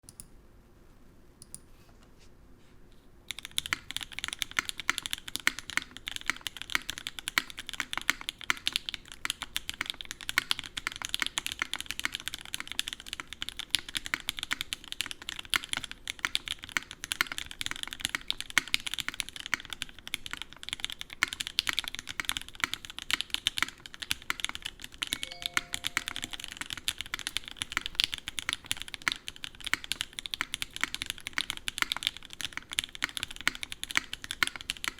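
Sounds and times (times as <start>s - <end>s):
mechanical keyboard typing: 3.3s - 34.9s.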